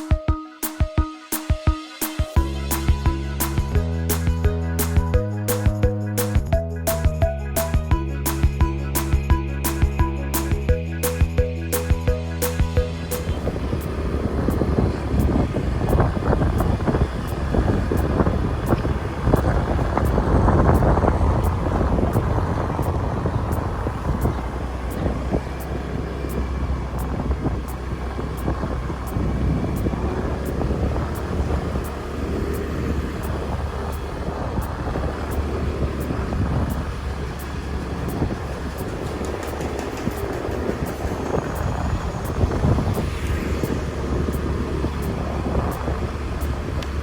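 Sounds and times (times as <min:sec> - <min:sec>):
road and wind noise: 0:00.0 - 0:47.0
motorbike engine rumble: 0:02.3 - 0:47.0.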